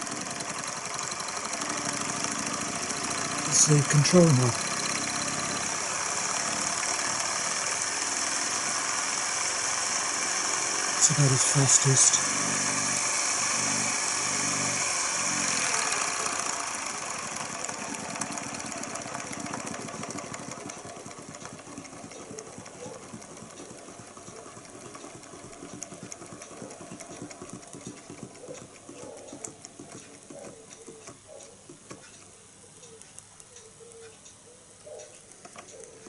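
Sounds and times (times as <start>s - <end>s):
stirling engine clattering: 0.0s - 32.0s.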